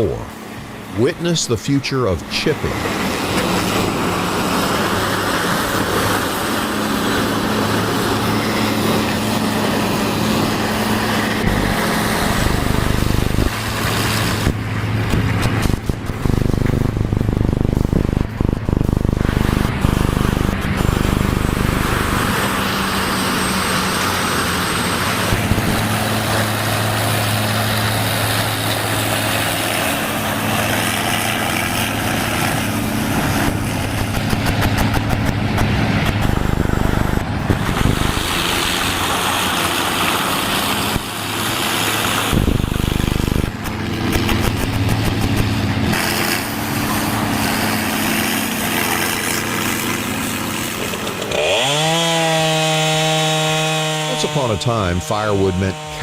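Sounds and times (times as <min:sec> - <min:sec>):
wood chipper engine: 0:00.0 - 0:56.0.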